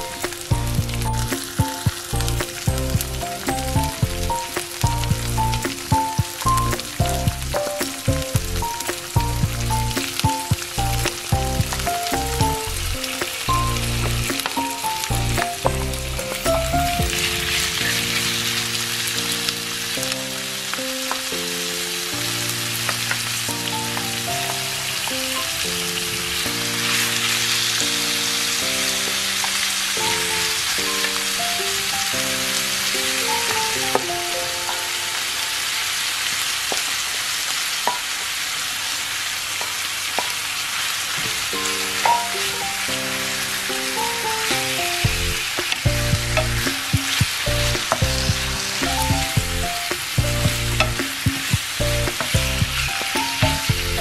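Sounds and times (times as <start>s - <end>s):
soft background music: 0.0s - 36.3s, 41.6s - 54.0s
food sizzling in a frying pan: 0.0s - 54.0s.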